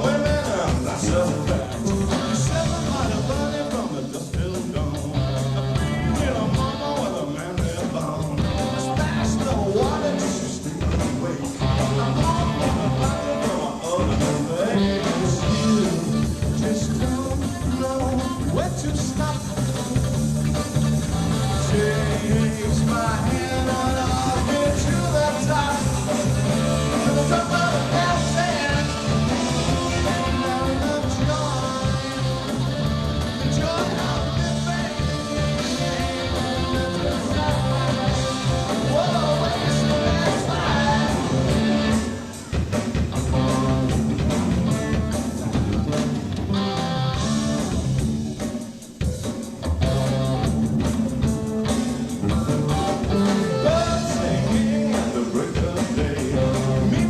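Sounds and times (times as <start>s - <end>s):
person singing: 0.0s - 19.8s, 21.3s - 44.8s, 52.3s - 57.0s
rock band playing live: 0.0s - 57.0s.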